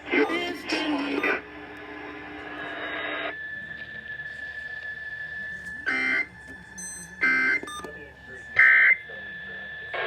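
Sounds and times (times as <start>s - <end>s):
steady high whine: 0.0s - 10.0s.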